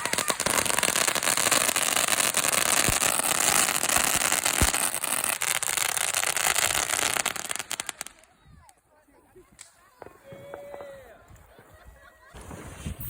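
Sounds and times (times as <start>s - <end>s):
fireworks fizzing and crackling: 0.0s - 13.0s.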